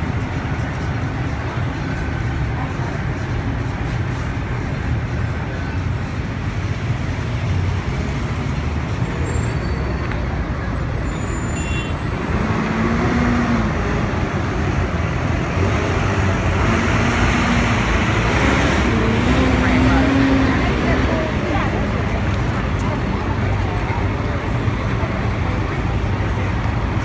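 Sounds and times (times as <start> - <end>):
heavy vehicle engines rumbling: 0.0 - 27.0.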